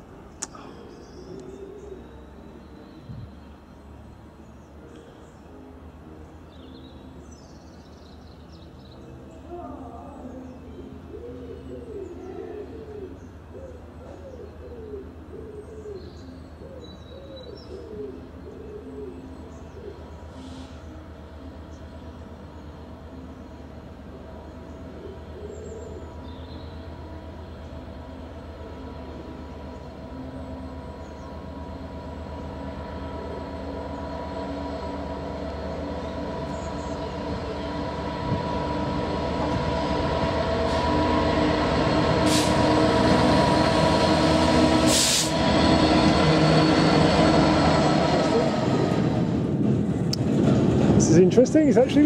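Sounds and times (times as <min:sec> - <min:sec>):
diesel locomotive engine: 0:00.0 - 0:52.0.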